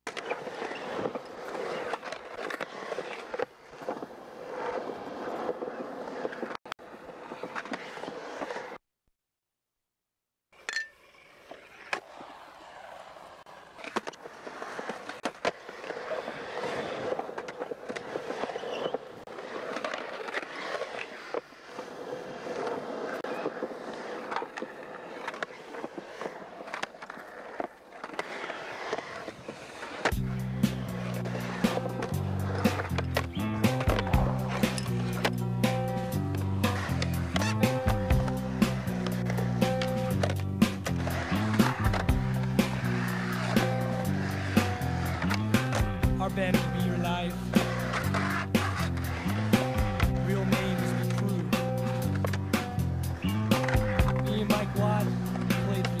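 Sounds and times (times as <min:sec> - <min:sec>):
skateboard wheels rolling on concrete: 0:00.0 - 0:08.8, 0:10.5 - 0:56.0.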